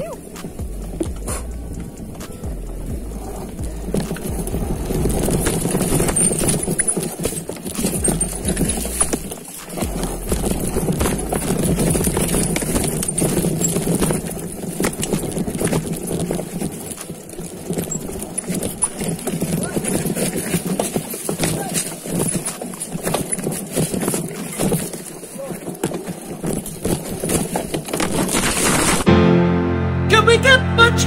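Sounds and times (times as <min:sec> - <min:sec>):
bike rattling: 0:00.0 - 0:29.1
bike tyres rumbling: 0:00.0 - 0:29.1.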